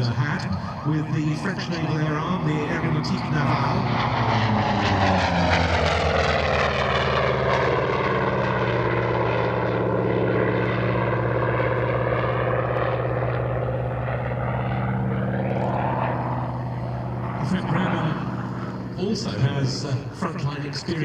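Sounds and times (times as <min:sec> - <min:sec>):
propeller plane engine flying past: 0:00.0 - 0:21.0.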